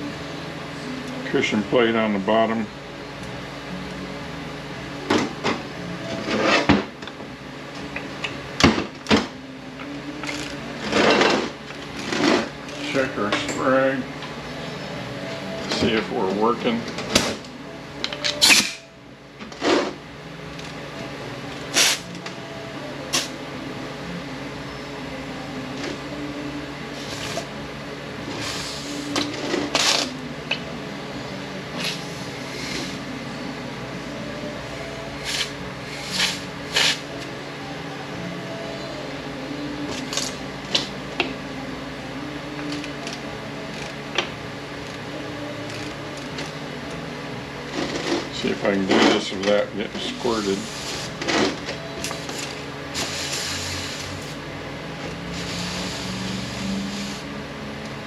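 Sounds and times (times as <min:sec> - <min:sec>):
low workshop hum: 0:00.0 - 0:58.0.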